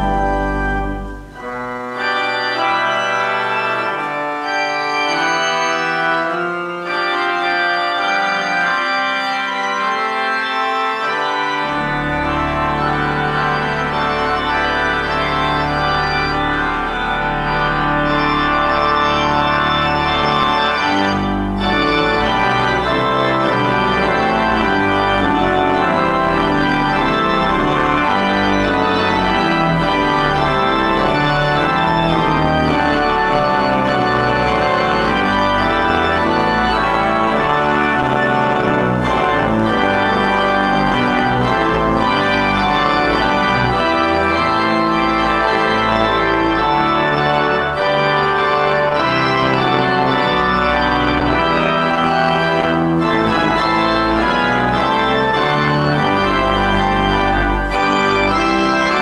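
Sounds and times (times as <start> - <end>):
church organ chords: 0.0 - 59.0.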